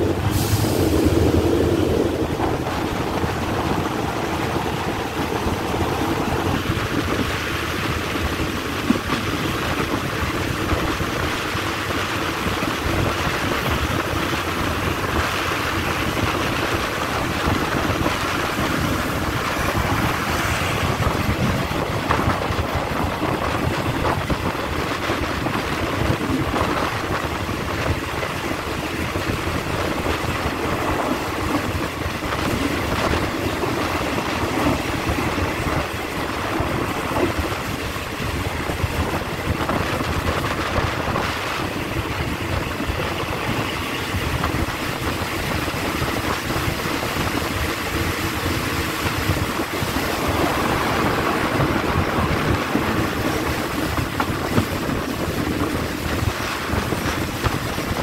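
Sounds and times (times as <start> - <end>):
train wheels rumbling: 0.0 - 58.0
wind rushing at window: 0.0 - 58.0.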